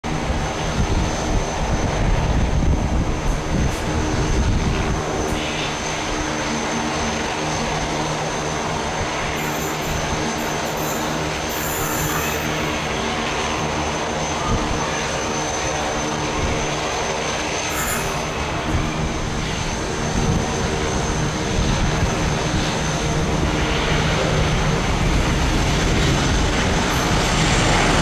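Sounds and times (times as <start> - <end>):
jet engine drone: 0.0 - 28.0.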